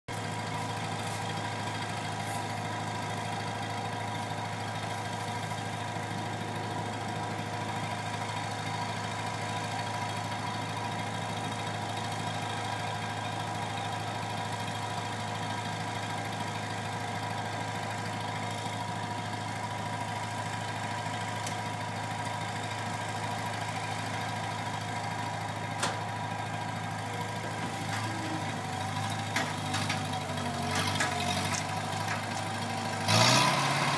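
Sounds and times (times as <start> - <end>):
skid-steer loader engine idling: 0.1 - 33.9.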